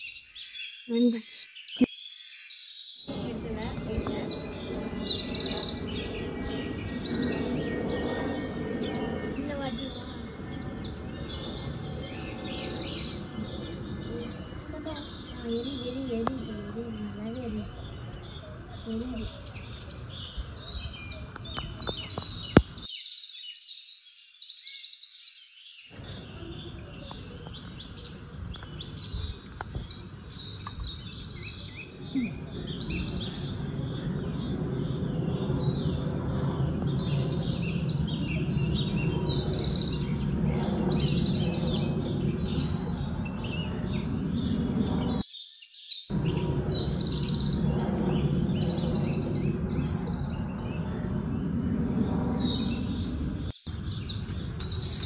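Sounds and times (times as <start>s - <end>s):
small birds chirping: 0.0s - 55.0s
low rumbling noise: 3.1s - 22.9s, 26.0s - 45.2s, 46.1s - 55.0s.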